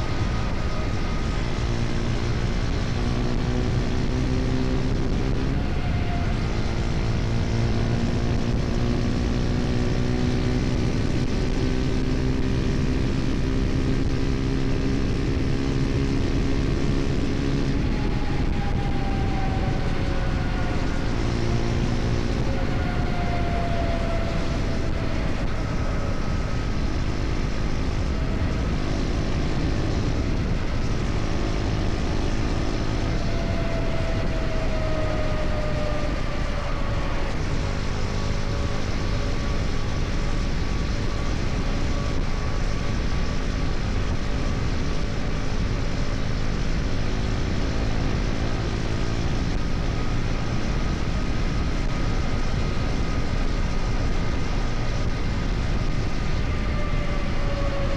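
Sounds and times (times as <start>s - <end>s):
motorcycle engine cruising: 0.0s - 57.9s
wind rush: 0.0s - 57.9s.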